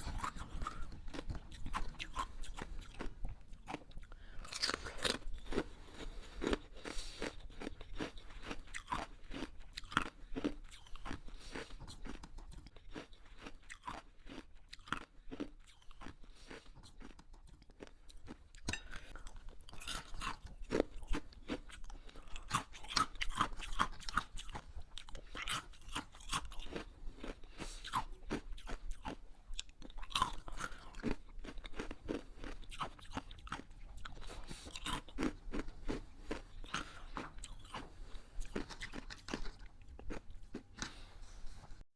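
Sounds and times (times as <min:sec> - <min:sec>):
ice crunching while chewed: 0:00.0 - 0:41.6.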